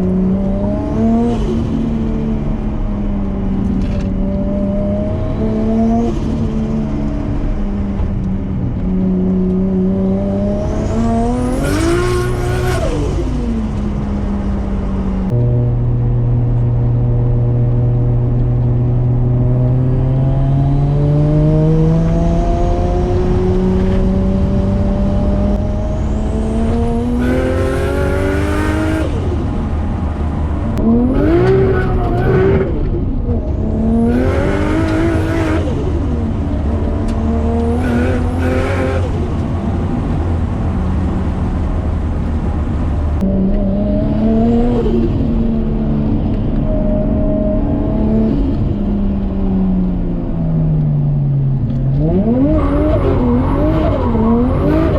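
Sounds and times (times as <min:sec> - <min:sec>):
turbo car engine accelerating: 0:00.0 - 0:54.9.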